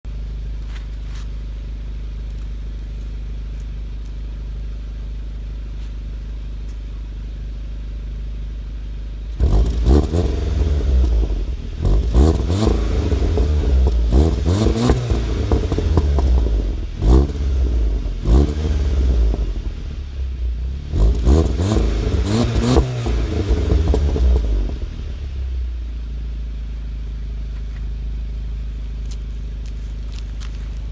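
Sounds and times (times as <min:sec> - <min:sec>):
car engine idling and revving: 0:00.1 - 0:30.9.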